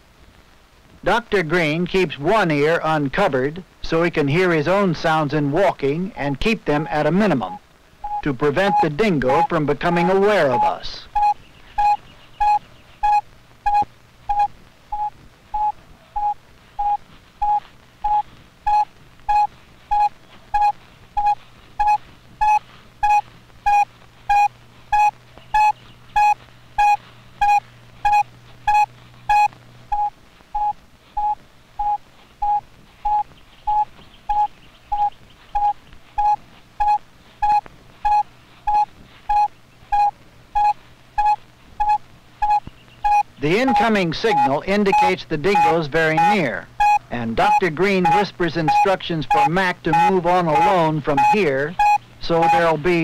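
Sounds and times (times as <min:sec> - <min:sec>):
receiver short beeps: 0:07.4 - 0:52.8.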